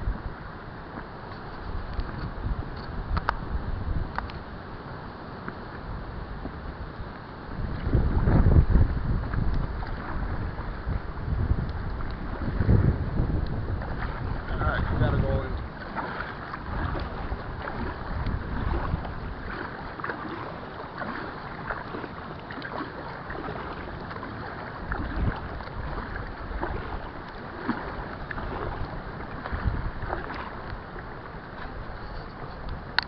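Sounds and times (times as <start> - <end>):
wind buffeting microphone: 1.4 - 4.5, 5.8 - 33.0
paddle splashing in water: 4.9 - 33.0.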